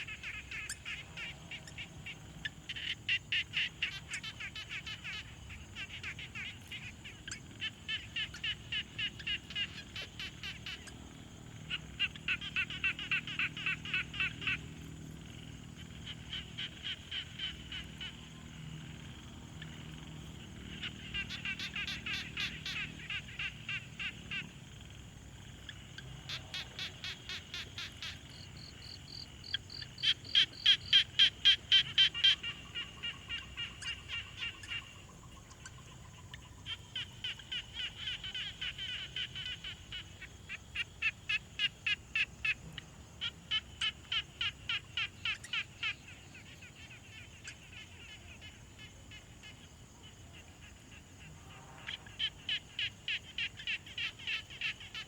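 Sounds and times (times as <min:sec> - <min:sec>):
frogs calling in sharp pulses: 0:00.0 - 0:55.0.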